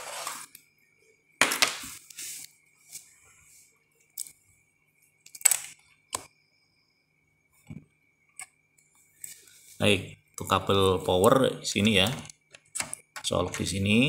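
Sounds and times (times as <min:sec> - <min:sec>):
faint high-pitched whine: 0:00.0 - 0:14.0.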